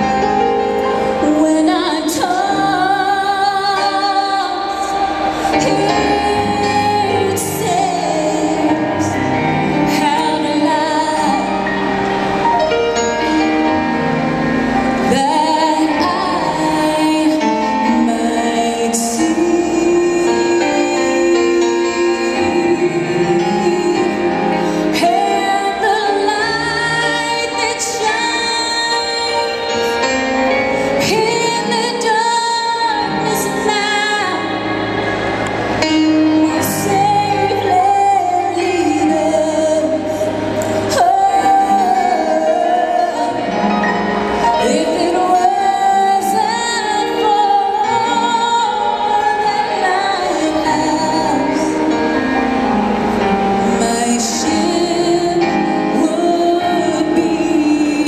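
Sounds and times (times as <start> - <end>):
instrumental accompaniment: 0.0 - 58.0
woman singing gospel: 0.9 - 11.9, 15.0 - 35.2, 35.8 - 52.1, 53.6 - 58.0.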